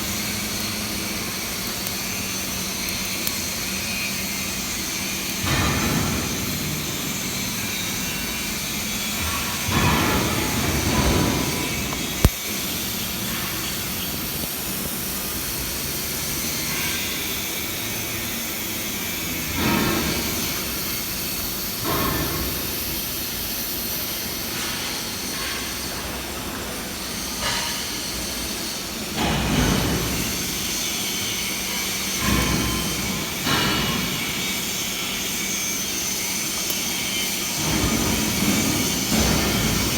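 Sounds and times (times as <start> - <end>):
welding hiss: 0.0 - 39.9.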